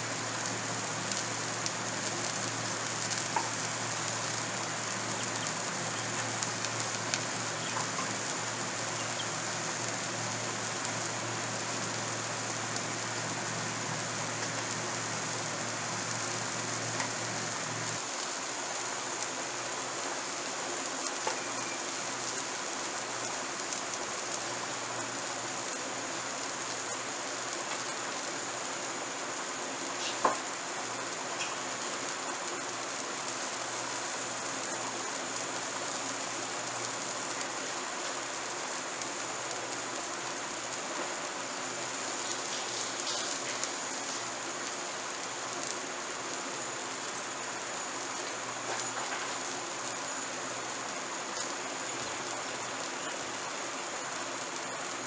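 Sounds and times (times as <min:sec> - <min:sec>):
slices sizzling in oil: 0:00.0 - 0:55.0.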